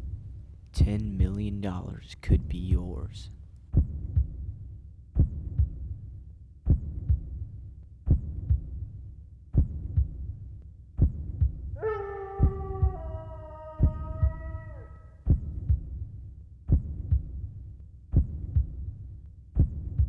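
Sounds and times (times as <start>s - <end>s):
heartbeat thumps: 0.0s - 20.0s.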